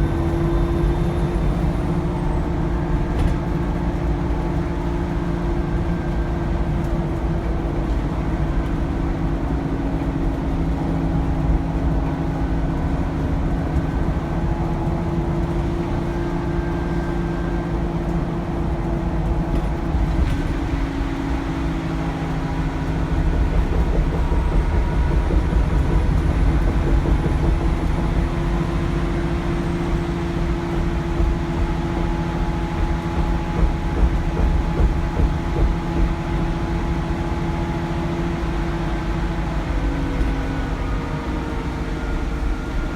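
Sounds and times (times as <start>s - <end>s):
bus diesel engine running: 0.0s - 42.9s
road and body rumble: 0.0s - 42.9s.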